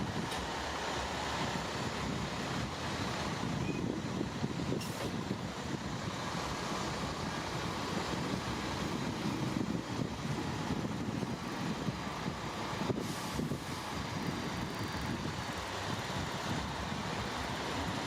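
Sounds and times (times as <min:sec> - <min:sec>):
diesel engine of heavy machinery: 0:00.0 - 0:18.0.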